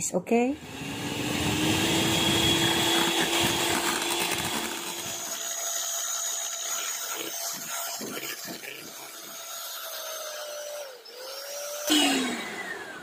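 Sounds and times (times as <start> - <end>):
electric hand mixer running: 0.5 - 13.0.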